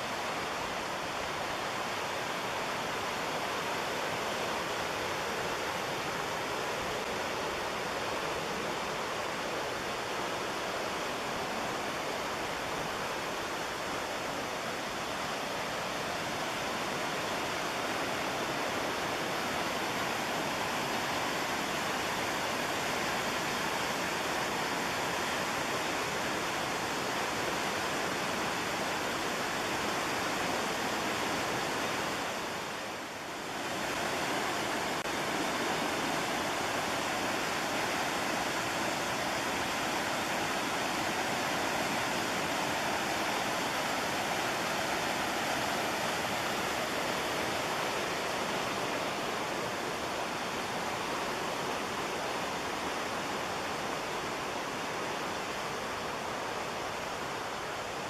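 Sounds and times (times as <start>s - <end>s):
rushing whitewater roar: 0.0s - 58.0s.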